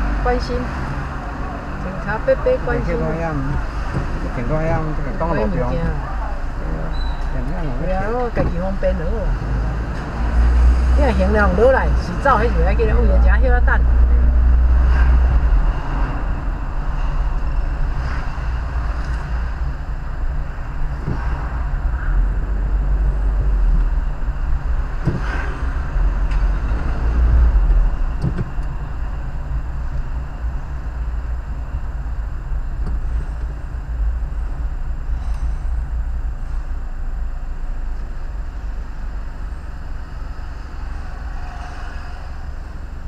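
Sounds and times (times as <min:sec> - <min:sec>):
vehicle engine and road rumble: 0:00.0 - 0:43.0.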